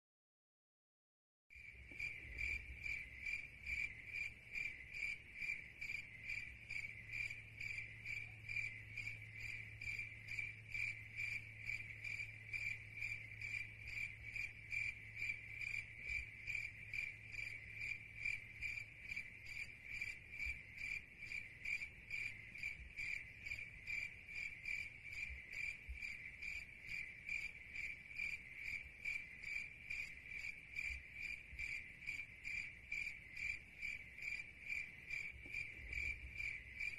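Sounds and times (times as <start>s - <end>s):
cricket chirping: 1.5s - 36.9s.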